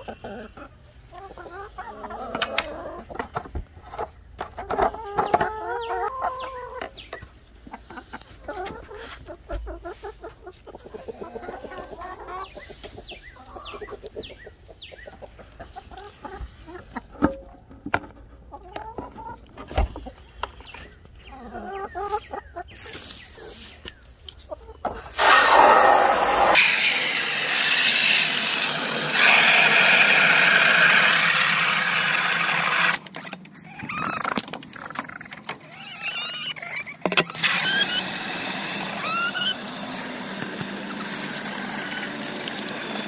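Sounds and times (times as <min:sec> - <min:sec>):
hens clucking: 0:00.0 - 0:43.0.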